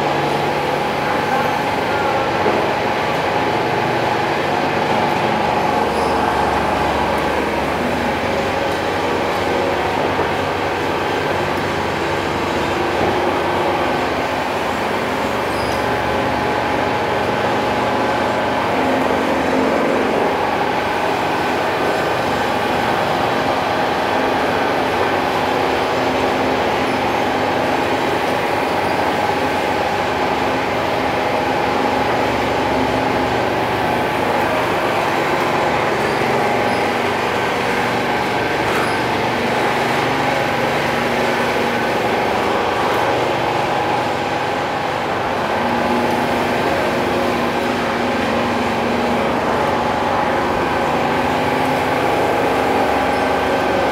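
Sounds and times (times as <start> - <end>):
machinery droning and whining: 0.0 - 53.9.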